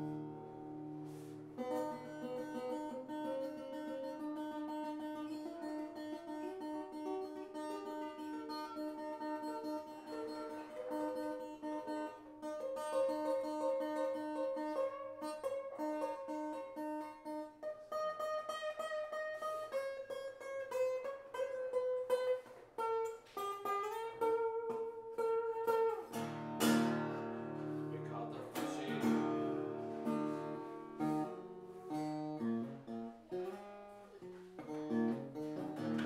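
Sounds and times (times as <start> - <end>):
acoustic guitar picking: 0.0 - 36.0.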